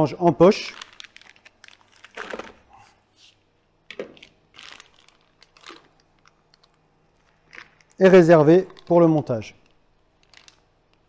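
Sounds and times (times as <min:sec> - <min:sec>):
plastic piping bag crinkling: 0:00.5 - 0:02.8, 0:03.9 - 0:11.0.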